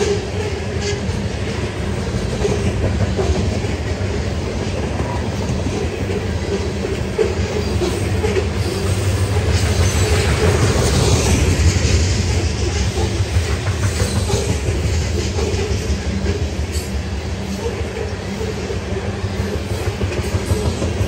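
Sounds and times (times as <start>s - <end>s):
clickety-clack over rail joints: 0.0s - 21.0s
train wheels rumbling on rail: 0.0s - 21.0s.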